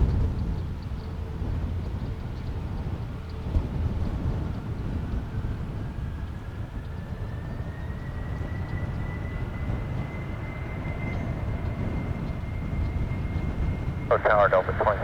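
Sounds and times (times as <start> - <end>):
high engine whine: 0.0 - 15.0
jet engine rumble: 0.0 - 15.0.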